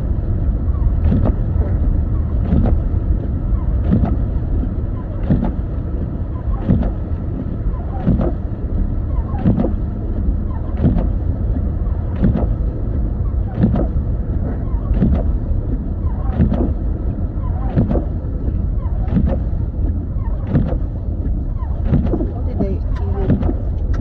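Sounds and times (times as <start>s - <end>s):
car driving rumble: 0.0s - 24.0s
windshield wipers sweeping: 0.0s - 24.0s.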